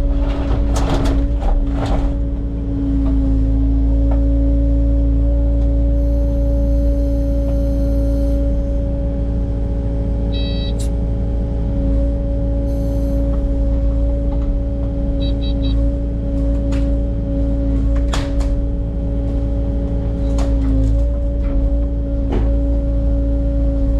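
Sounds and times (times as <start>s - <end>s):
excavator engine rumble: 0.0s - 23.9s.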